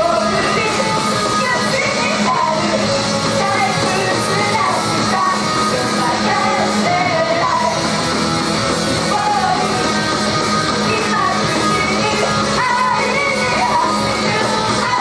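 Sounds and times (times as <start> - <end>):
women singing in unison: 0.0 - 8.1, 8.9 - 10.0, 10.7 - 15.0
backing music over speakers: 0.0 - 15.0.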